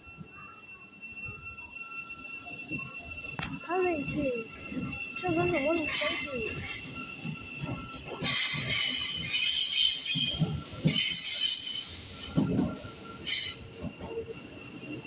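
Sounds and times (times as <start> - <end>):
train brakes squealing: 0.0 - 15.0.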